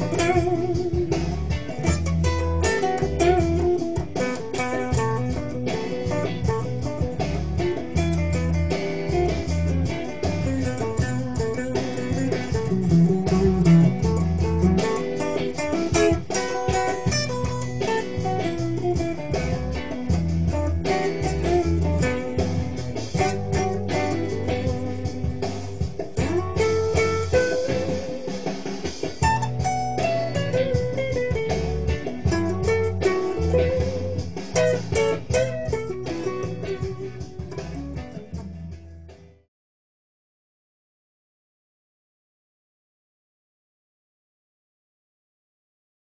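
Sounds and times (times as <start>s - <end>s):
electric guitar playing: 0.0s - 39.4s.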